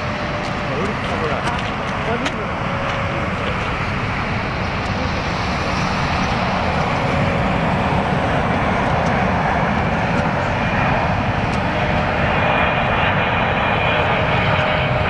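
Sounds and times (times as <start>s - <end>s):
faint jet engine whine: 0.0s - 15.0s
jet engine roar: 0.0s - 15.0s.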